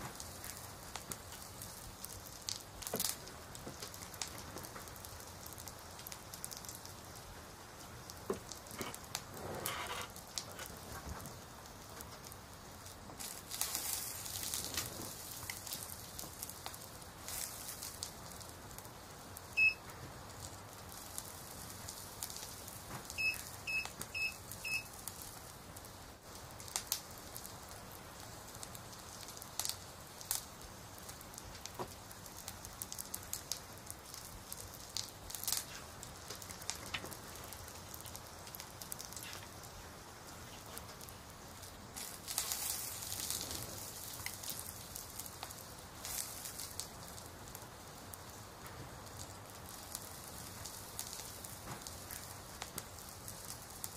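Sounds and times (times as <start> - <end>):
crackling clicks and pops: 0.0 - 53.9
steady hiss: 0.0 - 53.9.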